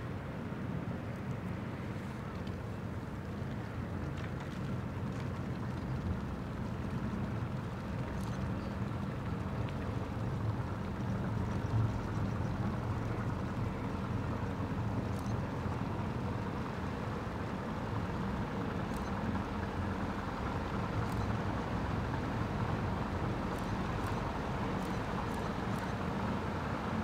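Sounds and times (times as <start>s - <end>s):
boat diesel engine humming: 0.0s - 27.0s.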